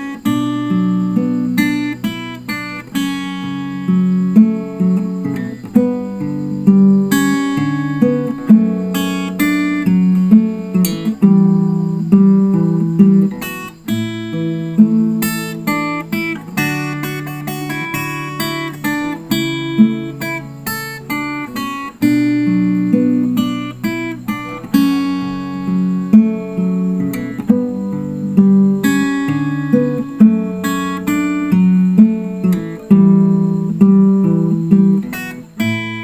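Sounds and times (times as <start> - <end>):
acoustic guitar playing: 0.0 - 36.0.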